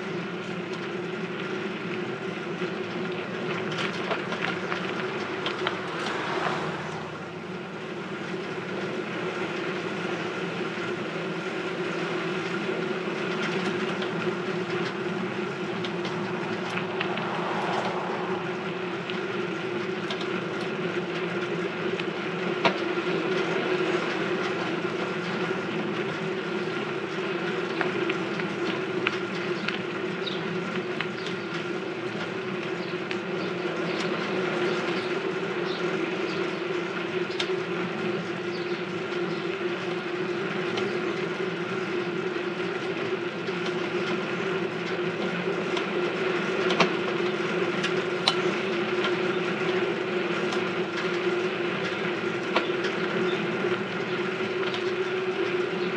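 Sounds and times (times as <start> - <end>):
bike gear rattling and whirring: 0.0 - 55.9.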